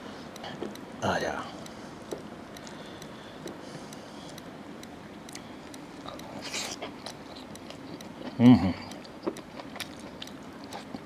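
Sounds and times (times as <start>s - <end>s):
soft chewing: 1.5s - 11.0s.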